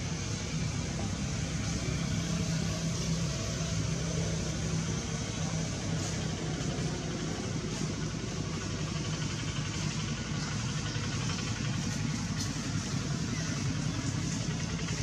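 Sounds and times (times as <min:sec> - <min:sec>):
constant hiss: 0:00.0 - 0:15.0
low mechanical hum: 0:00.0 - 0:15.0.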